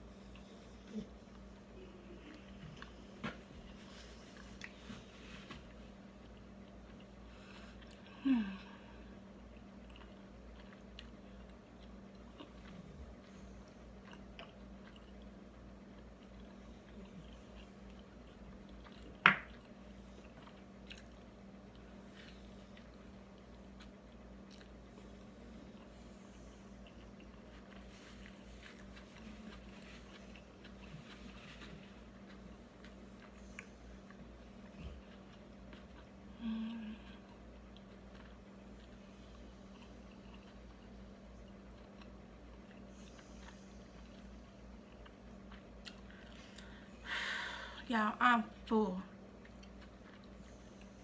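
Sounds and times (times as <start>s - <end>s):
person chewing food: 0.0s - 47.1s, 49.2s - 51.0s
low steady hum: 0.0s - 51.0s.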